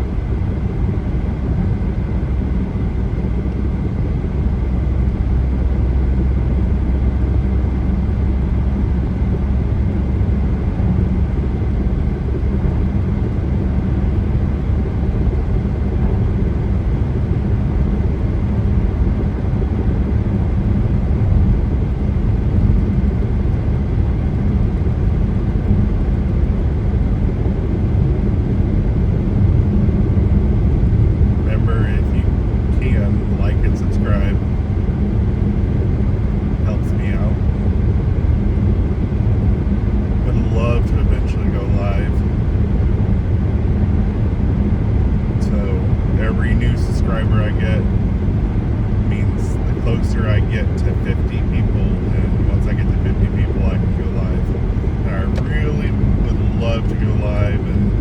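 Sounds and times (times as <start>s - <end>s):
car road noise from inside: 8.8s - 58.0s.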